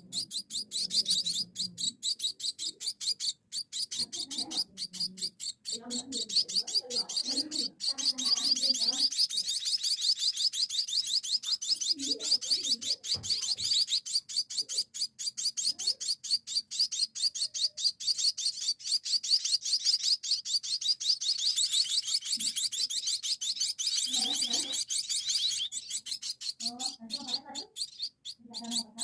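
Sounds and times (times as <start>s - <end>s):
chicks chirping rapidly: 0.0s - 29.0s.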